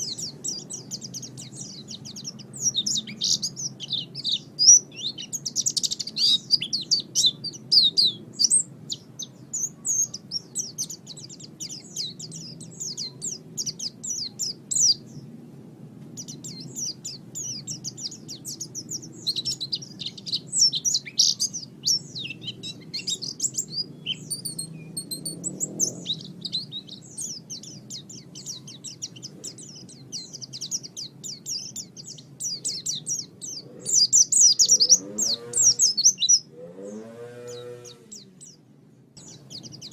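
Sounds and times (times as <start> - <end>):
bird twittering chirps: 0.0 - 15.4, 16.1 - 39.9.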